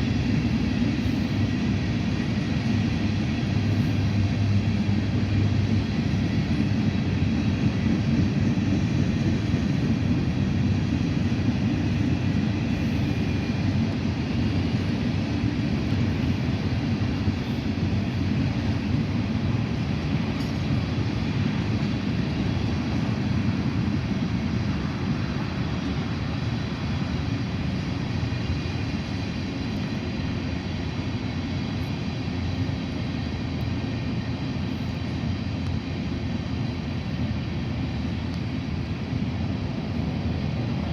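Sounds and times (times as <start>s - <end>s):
heavy diesel machinery rumbling: 0.0s - 40.9s.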